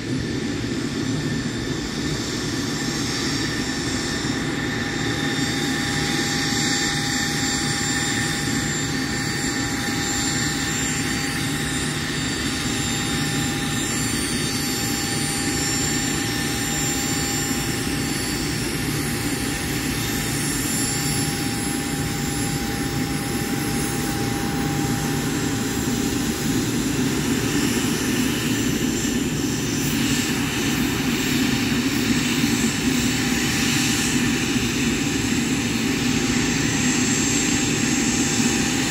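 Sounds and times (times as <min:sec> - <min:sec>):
jet engines idling: 0:00.0 - 0:38.9.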